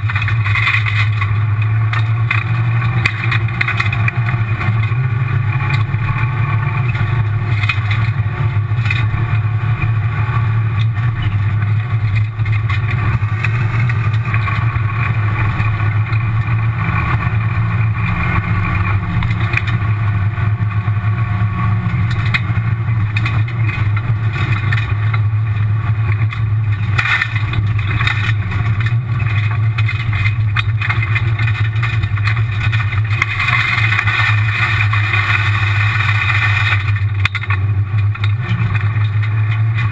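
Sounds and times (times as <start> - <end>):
rally car engine running: 0.0 - 39.9
tyres rushing on gravel: 0.0 - 39.9.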